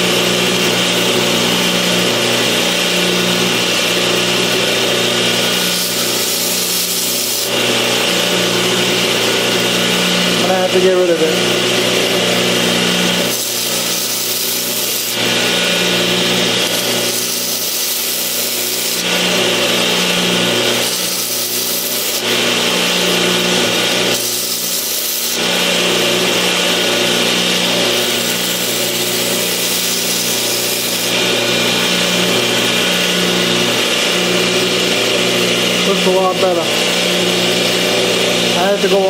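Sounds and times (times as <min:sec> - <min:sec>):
sanding machine motor hum: 0:00.0 - 0:39.0
blade hissing on abrasive: 0:02.6 - 0:39.0.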